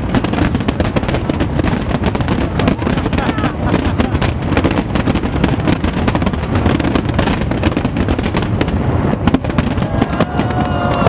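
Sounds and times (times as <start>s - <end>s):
fireworks cracks and bangs: 0.0s - 11.0s
low rumble of bursting shells: 0.0s - 11.0s.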